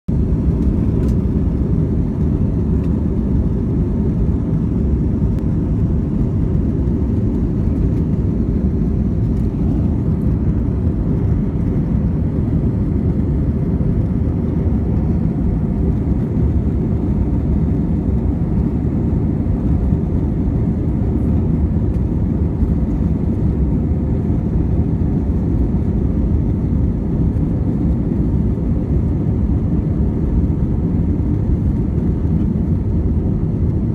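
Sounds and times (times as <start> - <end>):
jet engines roaring in cabin: 0.1 - 33.9.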